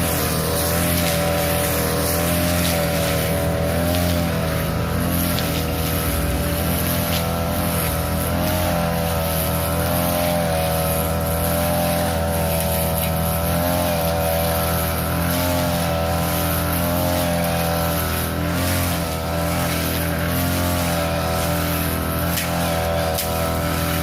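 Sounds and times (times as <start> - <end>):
grass cutter engine running: 0.0 - 24.0.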